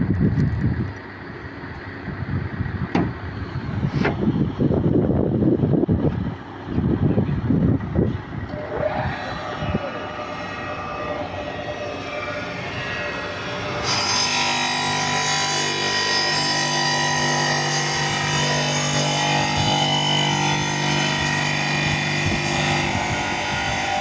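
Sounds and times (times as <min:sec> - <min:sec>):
machinery droning whine: 0:00.1 - 0:24.0.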